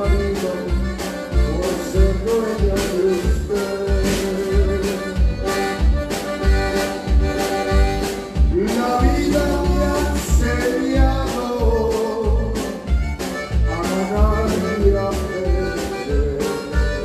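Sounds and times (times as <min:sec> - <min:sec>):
live band with accordion: 0:00.0 - 0:17.0.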